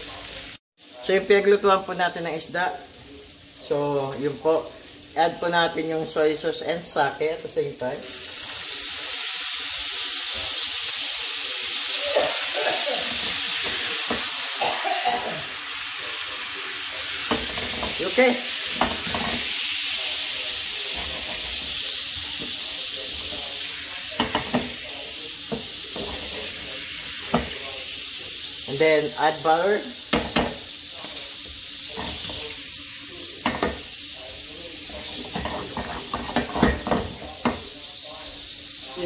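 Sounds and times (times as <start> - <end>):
sauce sizzling in a frying pan: 0.0 - 39.0.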